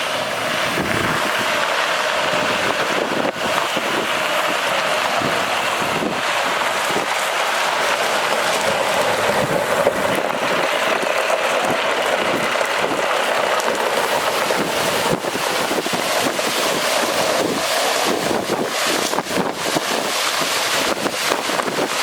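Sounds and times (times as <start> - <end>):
water spraying hiss: 0.0 - 22.0.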